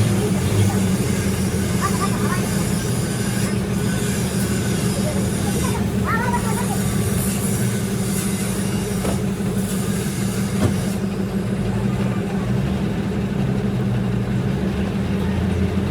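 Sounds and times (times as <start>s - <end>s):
machinery humming: 0.0s - 15.9s.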